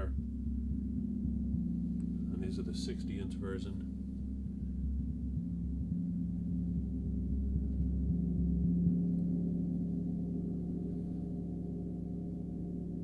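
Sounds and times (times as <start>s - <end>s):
deep gong drone: 0.0s - 13.0s.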